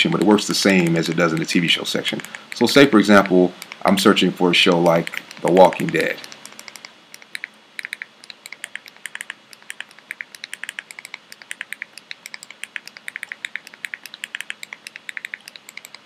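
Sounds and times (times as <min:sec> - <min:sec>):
keyboard keys clicking: 0:00.0 - 0:04.2, 0:04.9 - 0:16.0.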